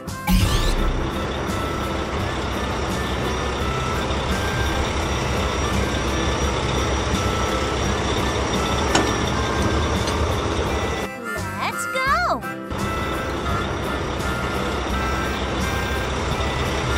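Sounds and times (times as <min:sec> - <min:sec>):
truck engine running: 0:00.0 - 0:16.9.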